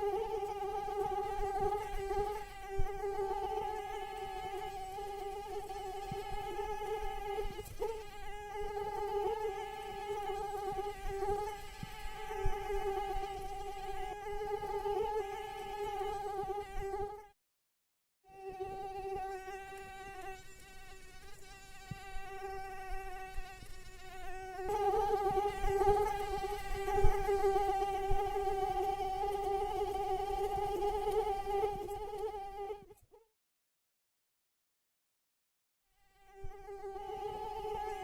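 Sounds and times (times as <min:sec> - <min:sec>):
mosquito wings buzzing: 0:00.0 - 0:17.4, 0:18.3 - 0:33.2, 0:36.0 - 0:38.0.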